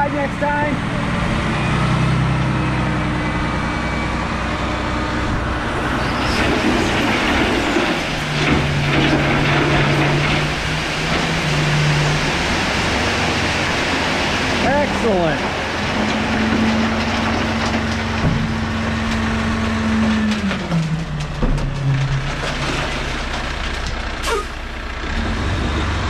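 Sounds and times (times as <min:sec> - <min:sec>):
diesel truck engine running: 0:00.0 - 0:26.0
gravel sliding and rattling: 0:05.1 - 0:26.0.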